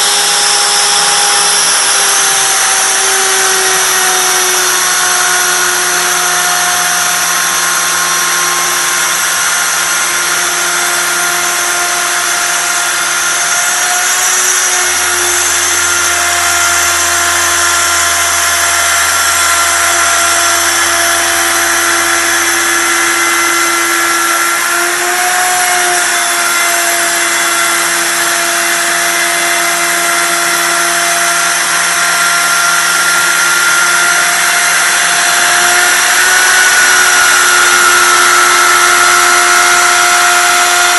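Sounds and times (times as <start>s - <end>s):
router spindle whine milling wood: 0.0s - 40.9s.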